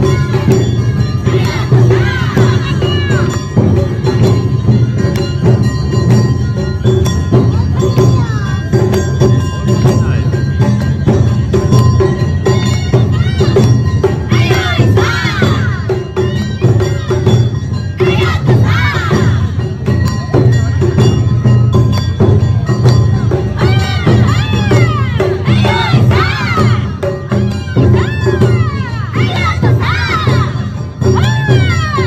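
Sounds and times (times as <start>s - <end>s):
clanging bell: 0.0s - 32.0s
taiko drums marching beat: 0.0s - 32.0s.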